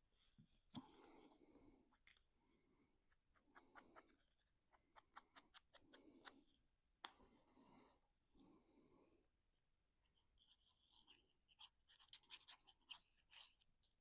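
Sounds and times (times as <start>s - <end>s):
quiet breaths: 0.0s - 14.0s.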